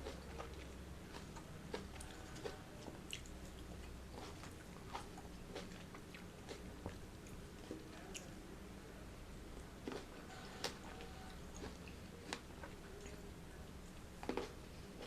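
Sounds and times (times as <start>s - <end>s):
biting and chewing juicy fruit: 0.0s - 8.4s, 9.4s - 15.0s.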